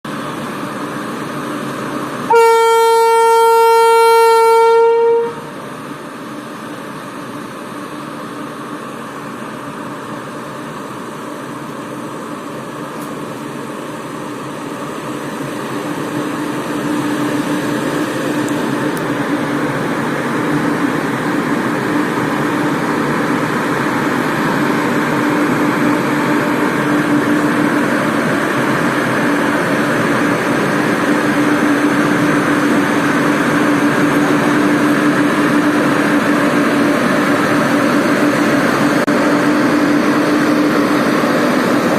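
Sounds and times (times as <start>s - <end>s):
constant train hum: 0.0s - 41.9s
train wheels rumbling on rail: 0.1s - 41.9s.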